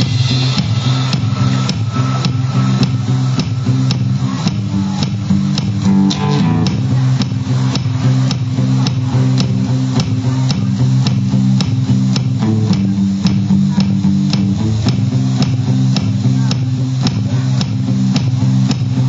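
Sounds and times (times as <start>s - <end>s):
guitar and bass music: 0.0s - 19.0s
ticking beat: 0.0s - 19.0s.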